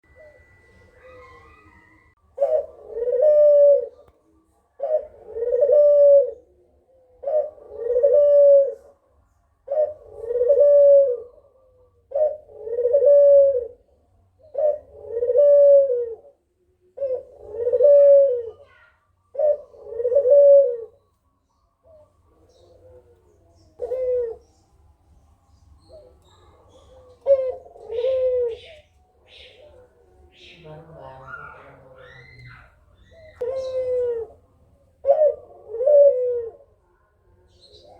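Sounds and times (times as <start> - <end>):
dove cooing: 0.0 - 21.1, 21.8 - 24.6, 25.8 - 36.8.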